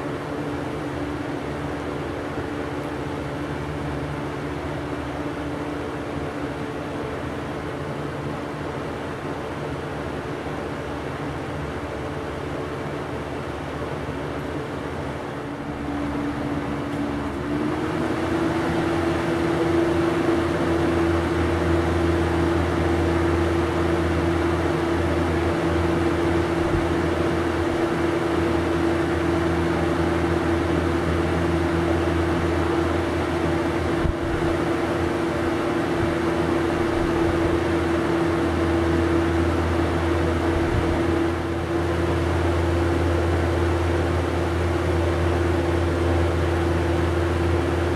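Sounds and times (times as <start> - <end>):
box fan running: 0.0 - 47.9.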